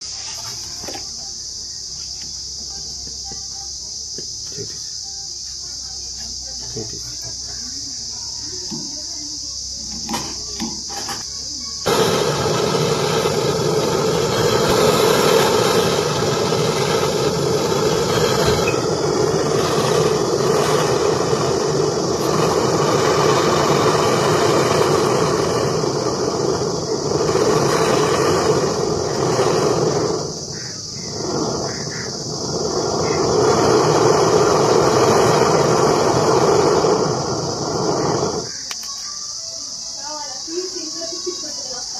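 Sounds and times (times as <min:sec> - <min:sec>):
gas torch hissing: 0:00.0 - 0:41.9
insect chirring: 0:00.0 - 0:41.9.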